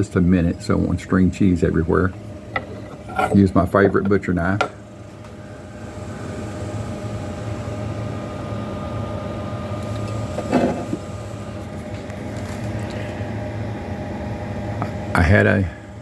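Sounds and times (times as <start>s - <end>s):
range hood fan humming: 0.0s - 16.0s.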